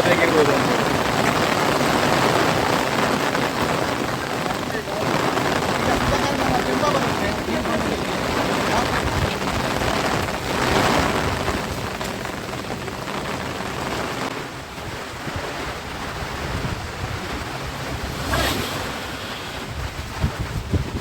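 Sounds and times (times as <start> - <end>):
fast-flowing river rushing: 0.0 - 21.0
wind on microphone: 0.6 - 21.0.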